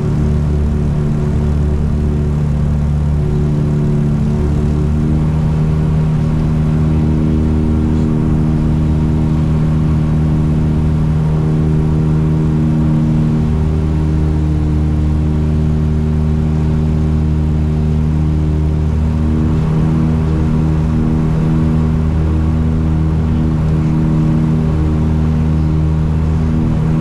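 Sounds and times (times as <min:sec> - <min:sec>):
aircraft engines droning: 0:00.0 - 0:27.0.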